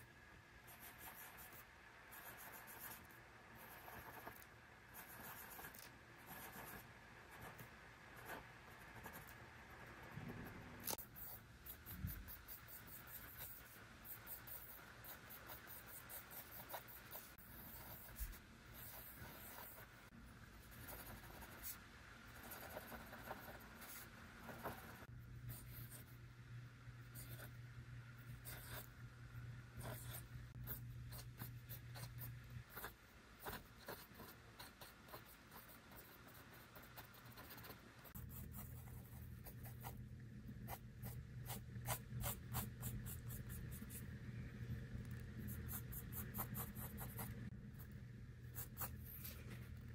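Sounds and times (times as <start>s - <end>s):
faint low hum: 0.0s - 49.9s
pencil scratching on paper: 0.7s - 20.0s, 20.6s - 21.8s, 22.4s - 26.1s, 27.2s - 27.6s, 28.4s - 28.9s, 29.8s - 40.0s, 40.6s - 44.1s, 45.4s - 47.9s, 48.5s - 49.7s.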